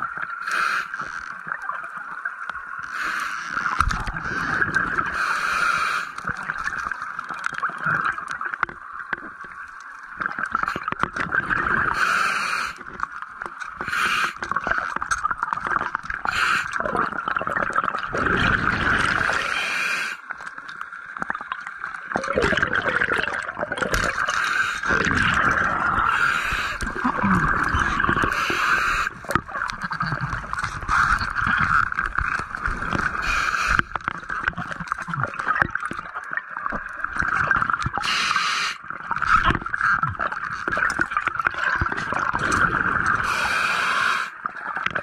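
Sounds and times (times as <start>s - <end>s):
hissing and bubbling: 0.0s - 45.0s
underwater hum: 0.0s - 45.0s.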